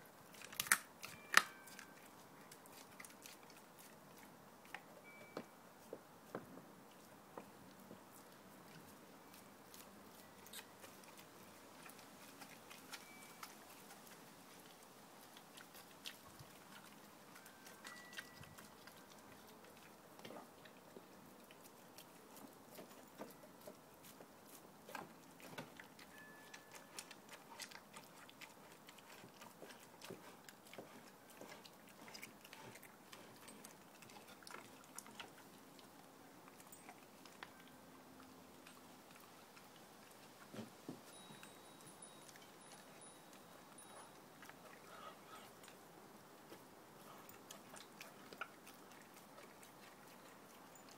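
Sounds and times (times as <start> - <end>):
dog chewing meat: 0.2 - 45.8, 46.4 - 50.9.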